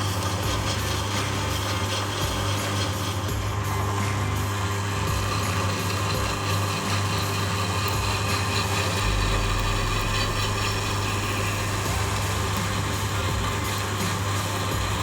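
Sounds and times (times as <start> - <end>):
electric drill drilling steel: 0.0 - 15.0.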